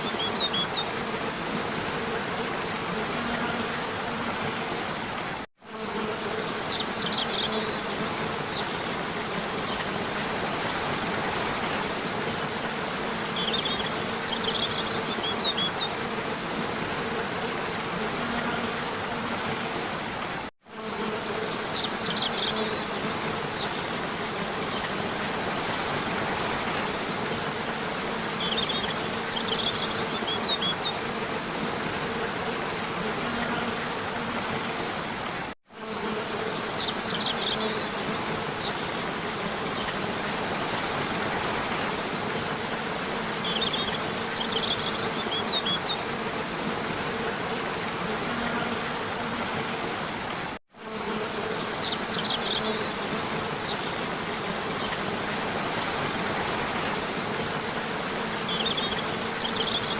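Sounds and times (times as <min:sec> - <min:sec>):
even hiss: 0:00.0 - 0:59.9.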